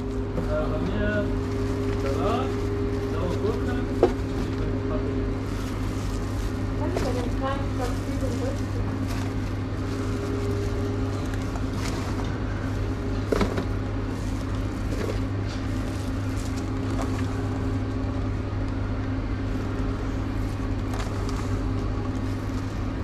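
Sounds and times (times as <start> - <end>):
low mechanical hum: 0.0 - 23.0
vegetables rustling: 0.1 - 18.3, 19.4 - 23.0.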